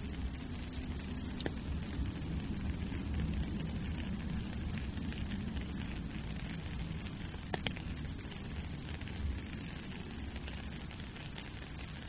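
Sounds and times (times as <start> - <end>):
rain falling on a puddle and gravel: 0.0 - 12.0
steady low rumble: 0.0 - 12.0.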